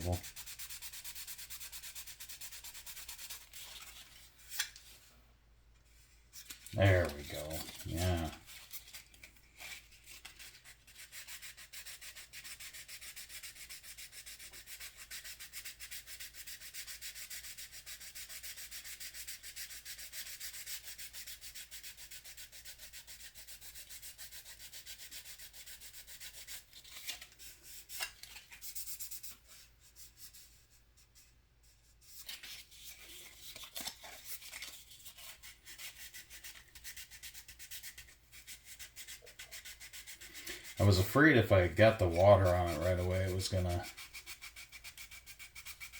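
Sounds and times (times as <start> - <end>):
sandpaper rubbing on putty: 0.0 - 4.6, 6.4 - 45.9.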